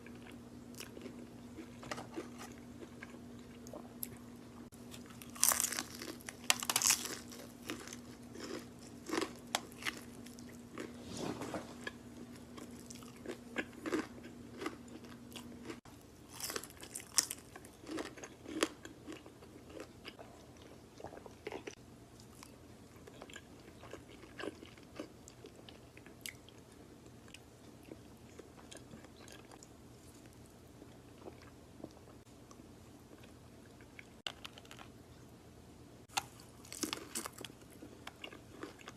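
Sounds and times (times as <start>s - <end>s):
crunching and chewing food: 0.0s - 35.3s, 36.1s - 38.9s.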